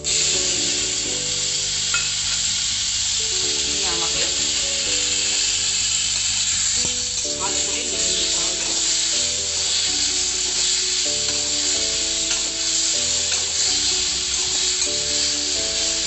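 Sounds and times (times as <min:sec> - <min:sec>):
background music: 0:00.0 - 0:16.0
tomato sizzling in hot oil: 0:00.0 - 0:16.0.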